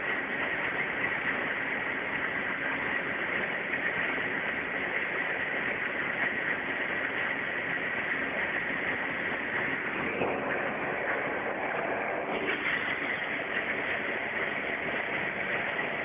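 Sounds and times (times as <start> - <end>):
light aircraft engine drone: 0.0 - 16.0
rushing air: 0.0 - 16.0.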